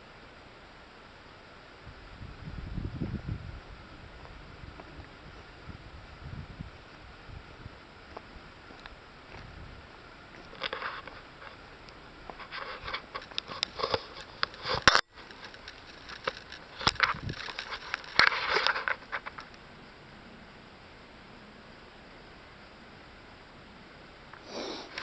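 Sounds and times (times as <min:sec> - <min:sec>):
leaves rustling and scraping: 0:01.6 - 0:22.9, 0:23.6 - 0:25.0.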